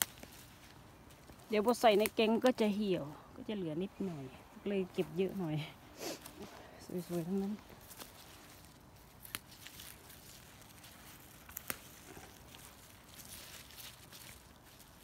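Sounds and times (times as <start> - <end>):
faint rustling of plants: 0.0 - 15.0.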